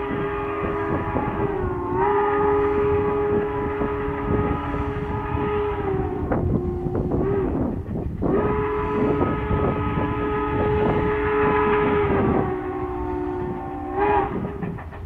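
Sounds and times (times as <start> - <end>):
steam locomotive chime whistle: 0.0 - 7.6, 8.3 - 14.8.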